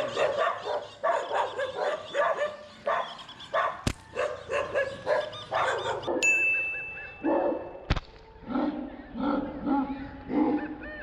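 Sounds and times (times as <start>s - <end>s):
dog barking: 0.0s - 6.2s, 7.2s - 7.8s, 8.5s - 10.8s.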